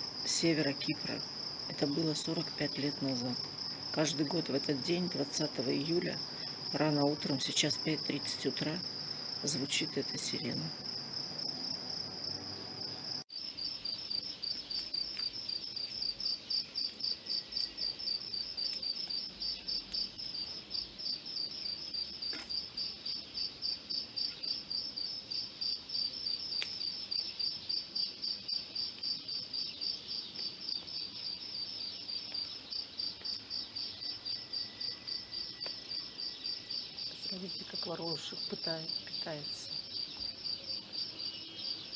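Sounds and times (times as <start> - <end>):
insects chirping: 0.0 - 41.9.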